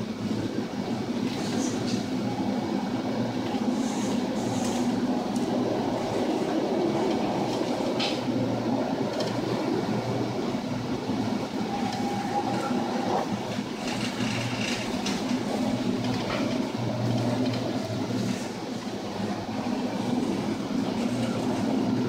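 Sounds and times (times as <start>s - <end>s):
ship engine low rumble: 0.0s - 22.0s.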